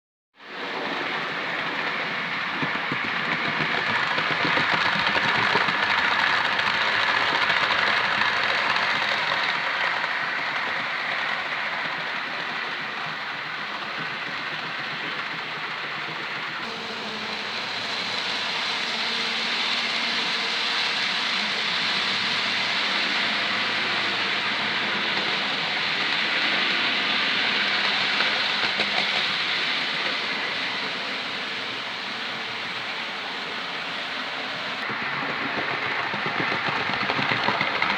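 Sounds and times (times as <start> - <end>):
model train motor whirring: 2.6 - 37.9.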